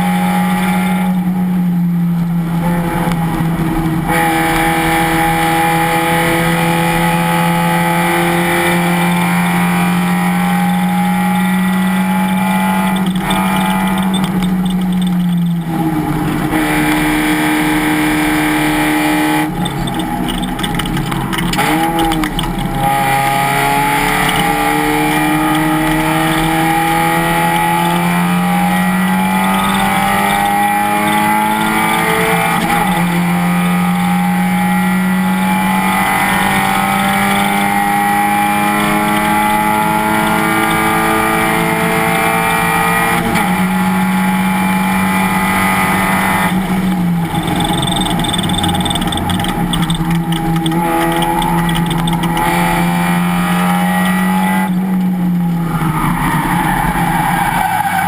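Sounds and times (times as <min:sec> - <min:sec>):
race car engine under load: 0:01.3 - 0:58.0.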